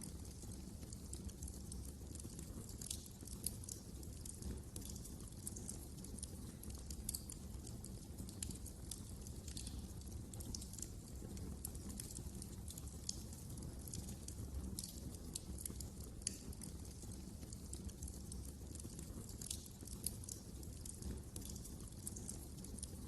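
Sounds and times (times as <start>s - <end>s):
low rumble of burning logs: 0.0s - 23.0s
wood fire crackling: 0.0s - 23.0s.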